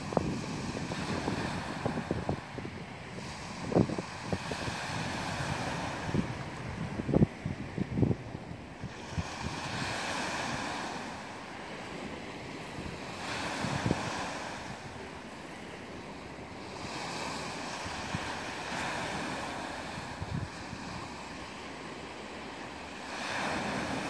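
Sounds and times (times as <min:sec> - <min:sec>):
waves washing on pebble beach: 0:00.0 - 0:07.3, 0:08.7 - 0:24.0
wind buffeting microphone: 0:00.0 - 0:21.9.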